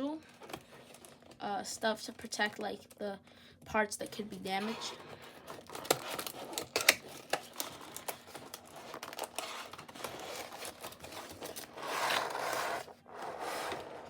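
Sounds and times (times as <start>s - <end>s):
plastic packaging crinkling: 0.2s - 2.9s, 4.5s - 13.9s.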